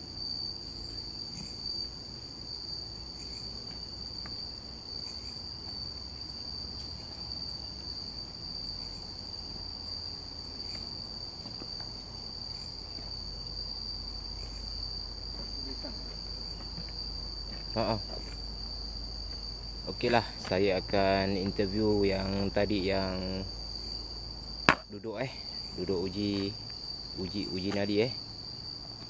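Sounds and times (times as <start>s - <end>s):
night insects trilling: 0.0s - 29.0s.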